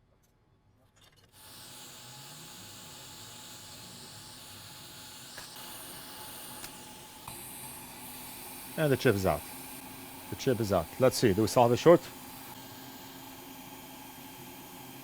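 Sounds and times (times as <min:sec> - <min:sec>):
hot air blower hissing: 0:01.4 - 0:15.0.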